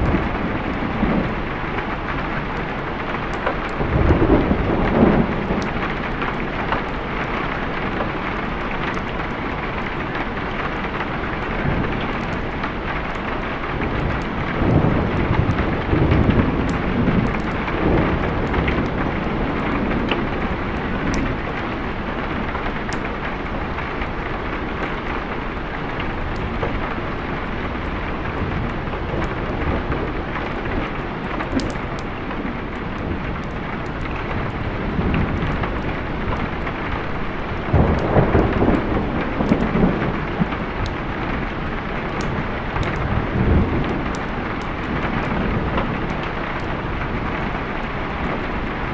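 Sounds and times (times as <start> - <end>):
low rolling thunder: 0.0 - 10.0, 10.7 - 48.9
heavy rain: 0.0 - 48.9.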